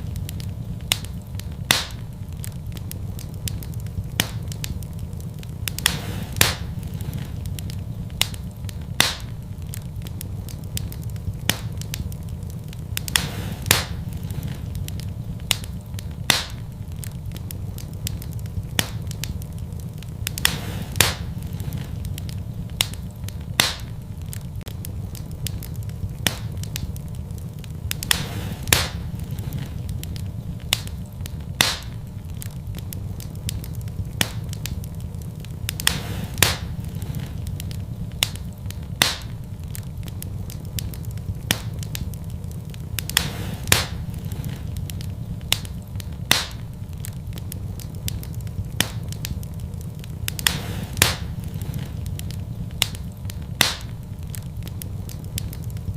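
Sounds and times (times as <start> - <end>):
fire crackles and pops: 0.0 - 55.9
low rumble of flames: 0.0 - 55.9.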